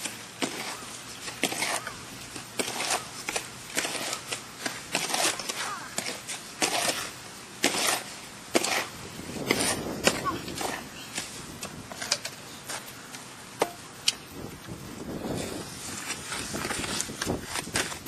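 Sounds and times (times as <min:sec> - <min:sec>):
rough outdoor background: 0:00.0 - 0:18.0.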